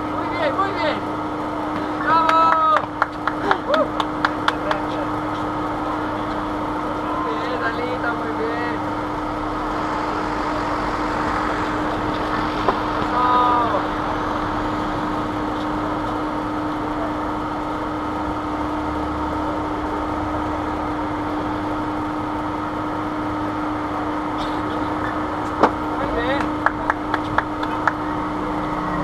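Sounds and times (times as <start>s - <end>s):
constant low hum: 0.0s - 29.0s
road traffic passing: 0.0s - 29.0s.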